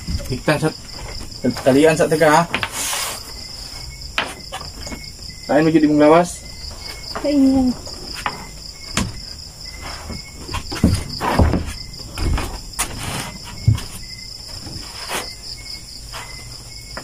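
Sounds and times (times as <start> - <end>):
knocks and rustling thuds: 0.0 - 5.7, 6.5 - 17.0
night insects chirping: 0.0 - 17.0.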